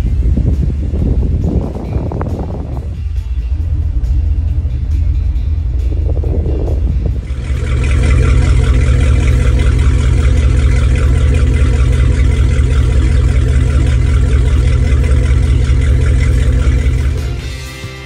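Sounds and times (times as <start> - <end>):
boat engines idling: 0.0 - 18.0.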